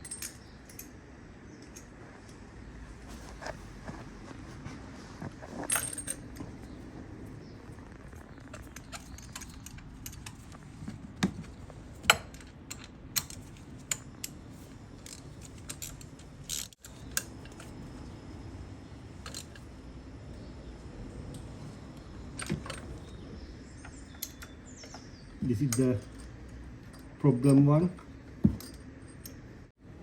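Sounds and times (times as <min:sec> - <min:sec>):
low steady background noise: 0:00.0 - 0:30.0.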